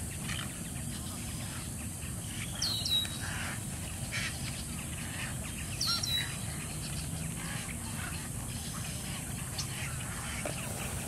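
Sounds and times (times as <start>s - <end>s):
colony of birds calling: 0.0s - 11.0s.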